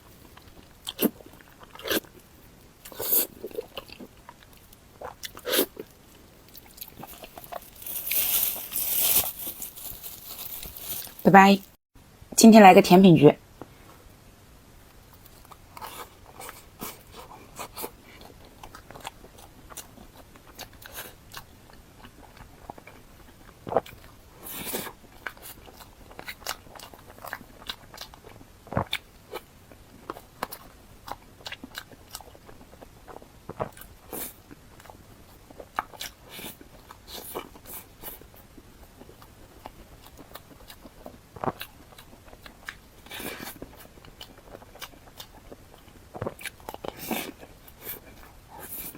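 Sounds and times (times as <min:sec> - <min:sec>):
person chewing and crunching: 0:00.0 - 0:11.4, 0:15.1 - 0:38.3, 0:38.9 - 0:48.9.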